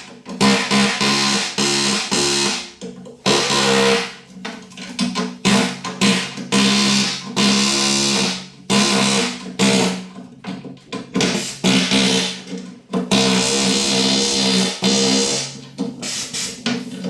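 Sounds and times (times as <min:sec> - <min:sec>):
air hammer chiselling concrete: 0:00.0 - 0:04.2, 0:05.4 - 0:10.2, 0:11.2 - 0:17.0.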